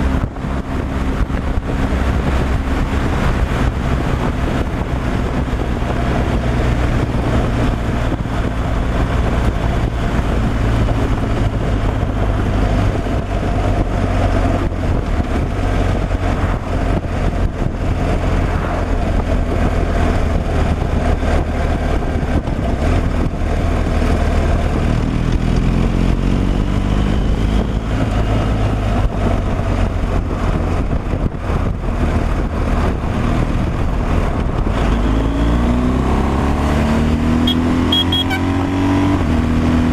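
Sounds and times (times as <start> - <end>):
road noise: 0.0 - 39.9
truck engine droning: 0.0 - 39.9.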